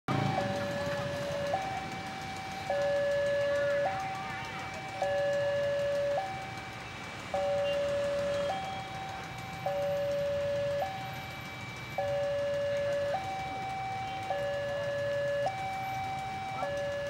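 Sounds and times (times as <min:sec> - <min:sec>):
level crossing two-tone alarm: 0:00.1 - 0:17.0.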